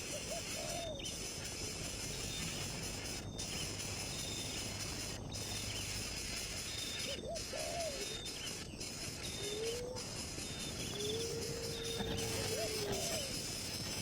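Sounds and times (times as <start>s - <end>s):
low curving bird calls: 0.0s - 14.0s
steady hiss: 0.0s - 14.0s
faint high chirps: 1.6s - 14.0s.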